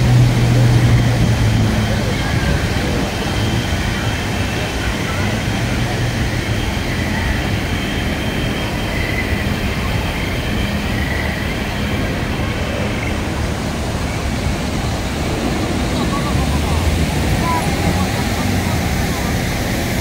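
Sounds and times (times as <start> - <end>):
street traffic roar: 0.0 - 20.0
waterfall rushing: 0.0 - 20.0.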